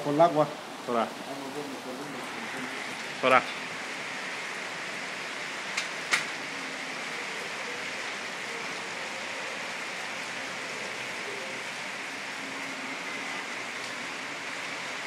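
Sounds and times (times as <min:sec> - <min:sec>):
steady rain on rooftops: 0:00.0 - 0:15.0.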